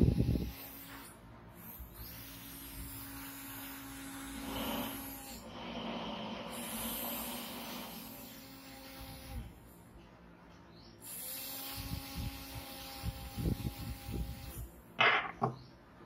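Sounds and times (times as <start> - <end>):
small motor spinning propeller: 0.0 - 9.5, 11.0 - 14.7.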